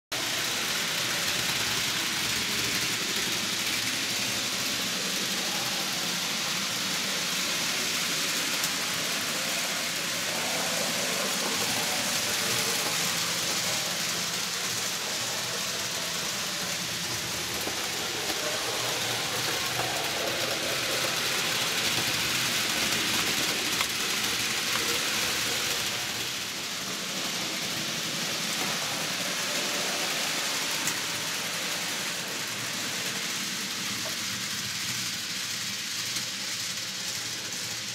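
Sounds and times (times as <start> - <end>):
model trains rolling on track: 0.1 - 37.9.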